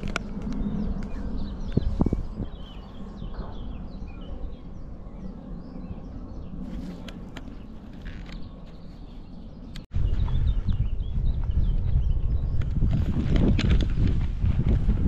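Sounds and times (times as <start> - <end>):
small birds chirping: 0.0 - 13.1
wind rumble on microphone: 0.0 - 15.0.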